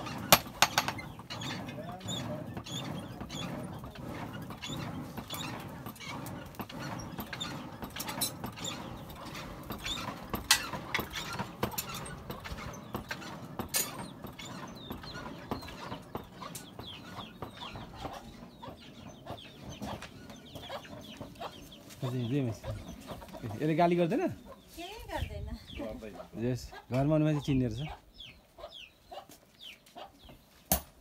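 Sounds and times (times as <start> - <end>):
chickens clucking and chirping: 0.0 - 30.6.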